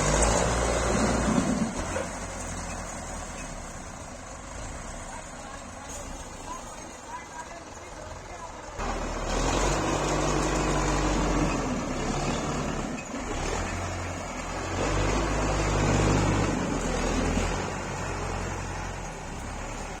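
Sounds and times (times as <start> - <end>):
tractor engine under load: 0.0 - 20.0.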